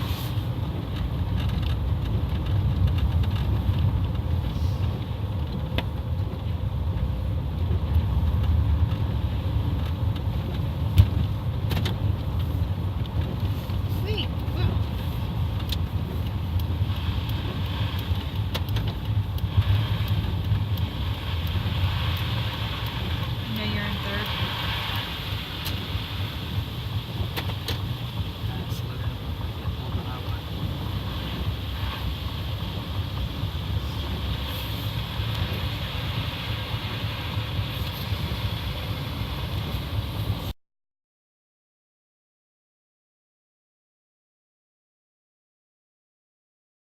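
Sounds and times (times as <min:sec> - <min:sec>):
car driving on snowy road: 0:00.0 - 0:40.6
truck engine and tyres rumbling: 0:00.0 - 0:40.6.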